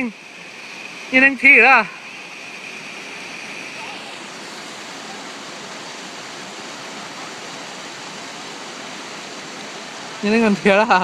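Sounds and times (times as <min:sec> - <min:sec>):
waterfall pouring into pool: 0:00.0 - 0:11.0.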